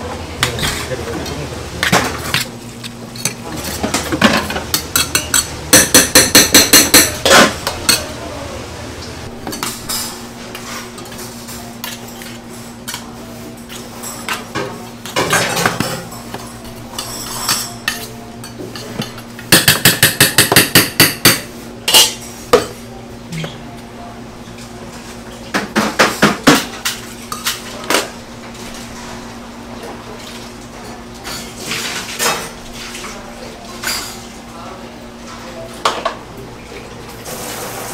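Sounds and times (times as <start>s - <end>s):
utensils clinking on steel bowls: 0.4s - 8.3s, 9.4s - 22.8s, 24.5s - 29.4s, 30.2s - 34.4s.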